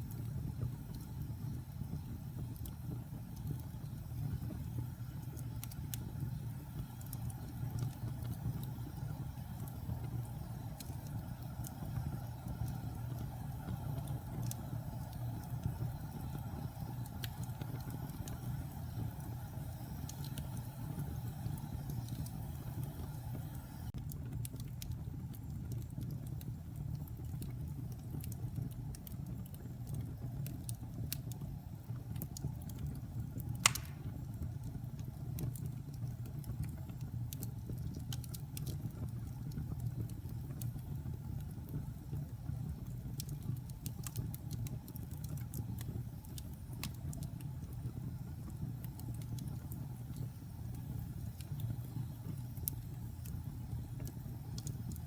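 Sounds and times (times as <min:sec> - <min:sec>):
fire crackling and popping: 0:00.0 - 0:55.0
fire low rumble: 0:00.0 - 0:55.0.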